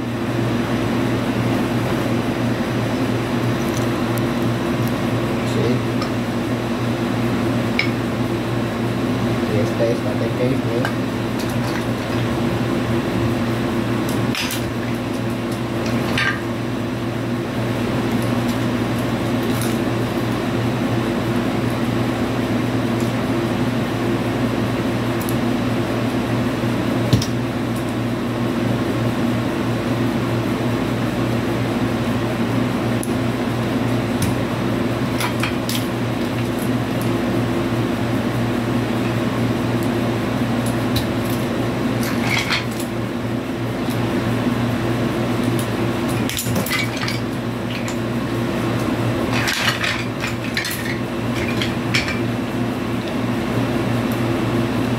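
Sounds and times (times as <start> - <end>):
air conditioner humming: 0.0 - 54.9.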